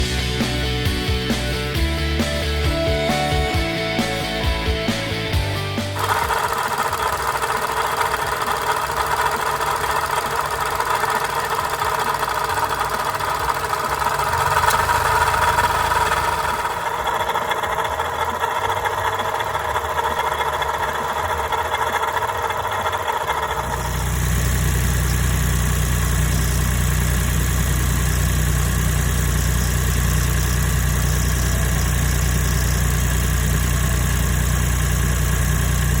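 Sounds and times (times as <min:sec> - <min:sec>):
car engine idling: 0:00.0 - 0:36.0
water pump whining: 0:05.8 - 0:36.0.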